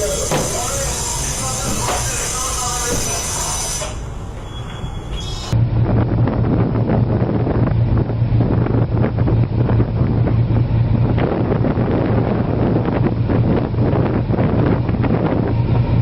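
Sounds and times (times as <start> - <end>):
steady low hum: 0.0 - 16.0
wind buffeting microphone: 0.0 - 16.0.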